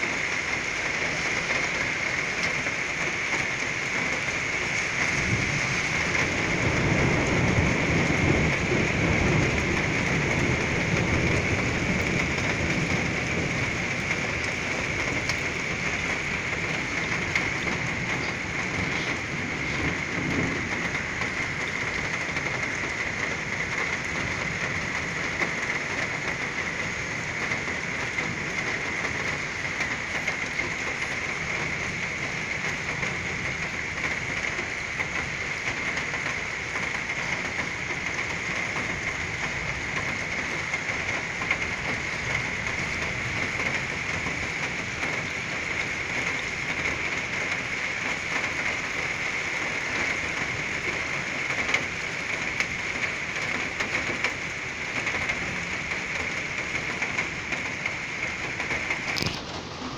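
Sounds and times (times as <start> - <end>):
heavy rain falling: 0.0 - 59.9
low rumble of thunder: 0.0 - 59.9.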